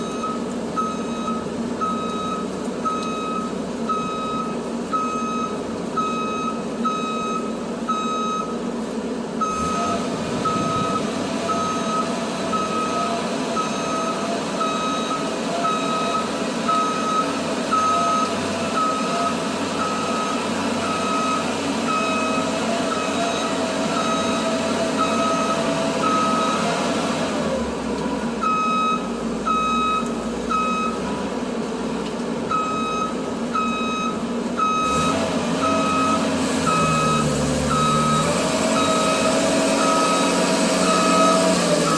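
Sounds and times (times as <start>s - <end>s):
backup alarm beeping: 0.0s - 8.5s, 9.4s - 26.6s, 28.4s - 31.0s, 32.5s - 41.9s
diesel engine running: 0.0s - 41.9s.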